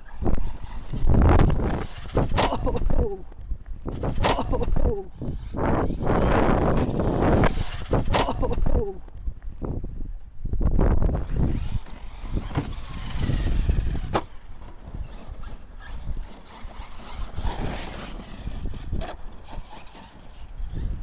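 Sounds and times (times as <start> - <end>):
rc truck electric motor whining: 0.0 - 2.4, 3.3 - 8.1, 11.0 - 21.0
chassis rattle: 0.0 - 3.1, 3.8 - 9.3, 11.0 - 21.0
tyres on rough gravel: 0.0 - 9.4, 11.1 - 21.0.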